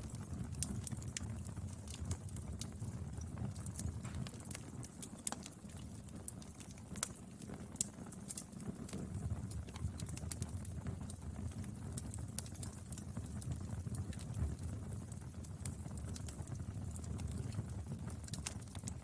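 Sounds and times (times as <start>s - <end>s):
fire rumble: 0.0s - 19.0s
wood crackling and popping: 0.0s - 19.0s.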